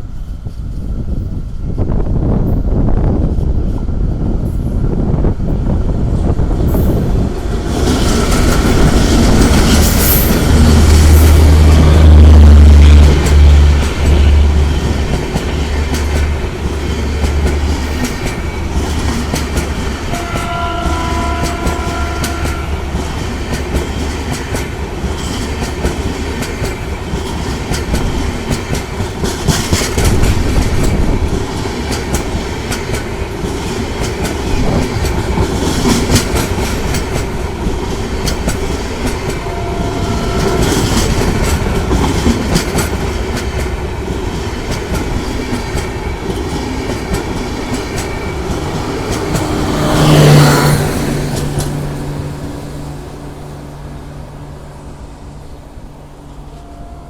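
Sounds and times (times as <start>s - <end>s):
low train rumble: 0.0s - 57.0s.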